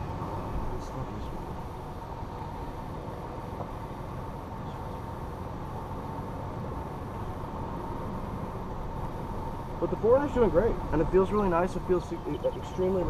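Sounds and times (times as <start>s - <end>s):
vehicle driving on dirt track: 0.0s - 13.0s.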